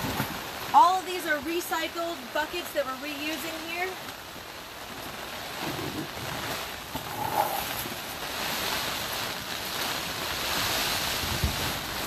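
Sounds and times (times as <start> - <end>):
rain pattering on a cover: 0.0 - 12.0.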